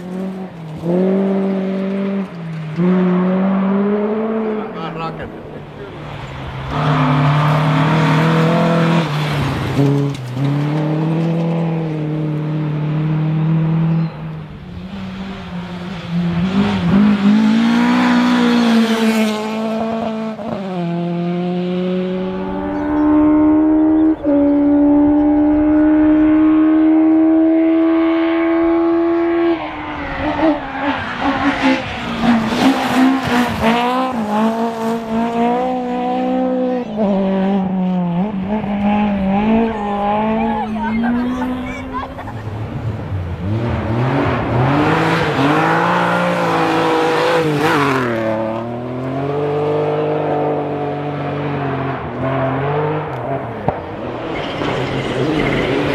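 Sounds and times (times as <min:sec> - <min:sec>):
car engine revving at full throttle: 0:00.0 - 0:55.9.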